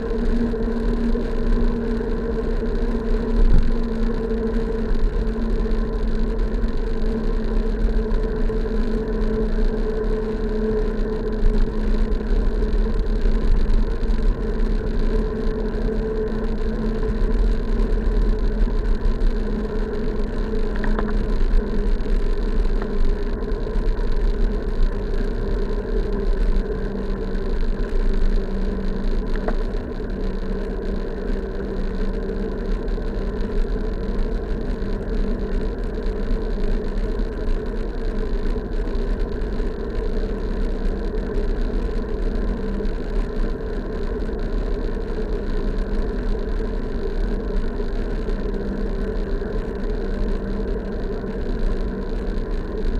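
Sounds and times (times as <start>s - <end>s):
bike road rumble: 0.0s - 52.9s
steady hum: 0.0s - 52.9s.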